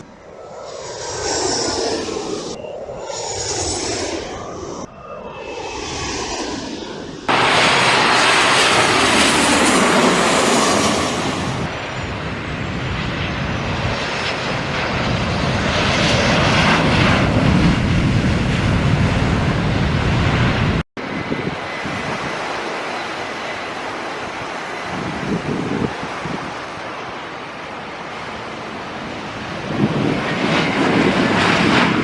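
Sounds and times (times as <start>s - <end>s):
jet airliner engine rush: 0.0s - 32.0s.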